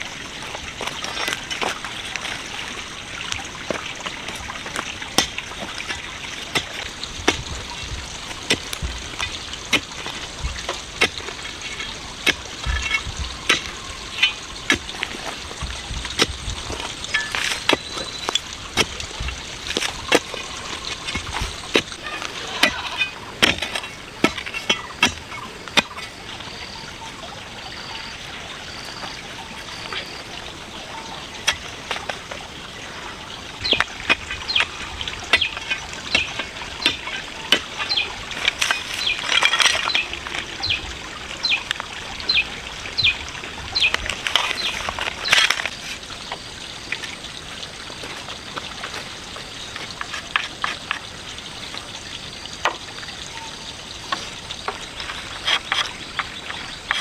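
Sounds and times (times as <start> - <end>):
bird calling: 0.0 - 57.0
water splashing and dribbling: 0.0 - 57.0.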